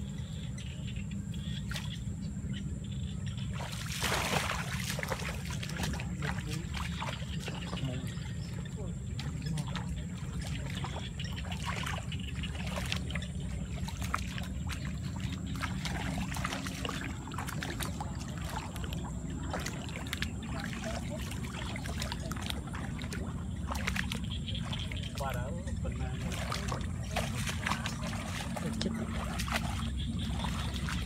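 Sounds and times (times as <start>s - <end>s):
steady low rumble: 0.0s - 31.0s
feet splashing through muddy water: 1.4s - 2.4s, 3.1s - 31.0s.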